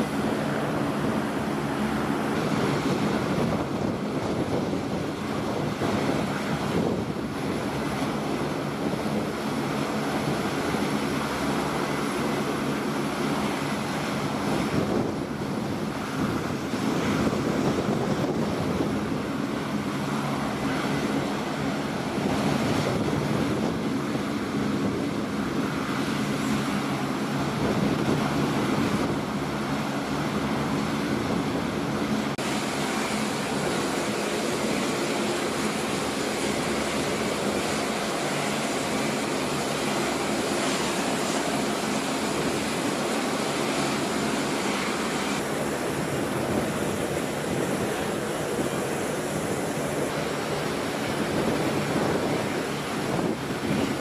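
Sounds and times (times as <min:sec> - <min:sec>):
low propeller hum: 0:00.0 - 0:54.0
turboprop engines droning: 0:00.0 - 0:54.0.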